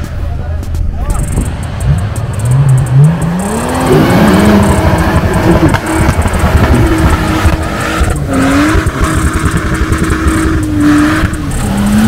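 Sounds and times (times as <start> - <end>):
off-road engine revving: 0.6 - 12.0.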